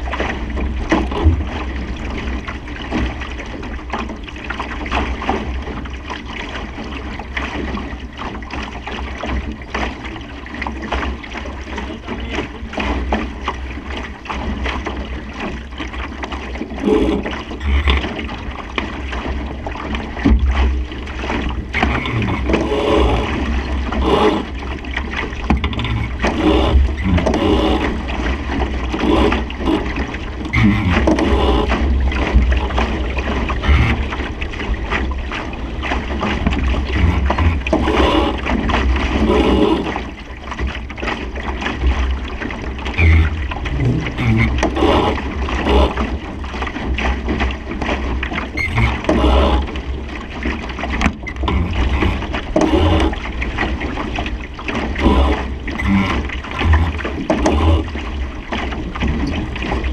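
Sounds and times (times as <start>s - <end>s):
water splashing along boat hull: 0.0s - 59.9s.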